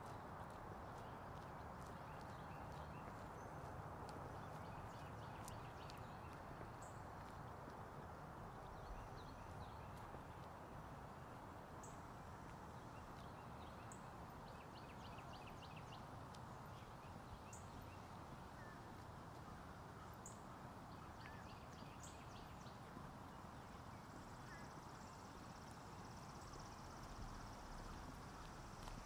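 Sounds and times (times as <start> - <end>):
footsteps on paved path: 0.0 - 29.0
songbirds chirping: 0.0 - 29.0.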